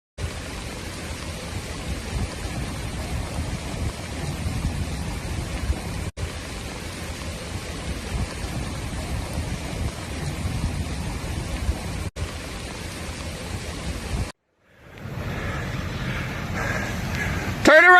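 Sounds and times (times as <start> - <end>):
wind rumbling on microphone: 0.2 - 17.7
heavy rain: 0.2 - 17.9.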